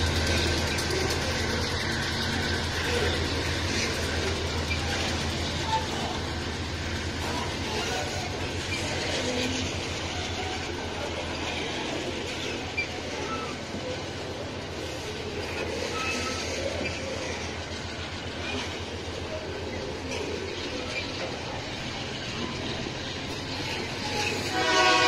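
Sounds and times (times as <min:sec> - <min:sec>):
rhythmic clickety-clack: 0:00.0 - 0:25.0
train wheels rumbling on rails: 0:00.0 - 0:25.0.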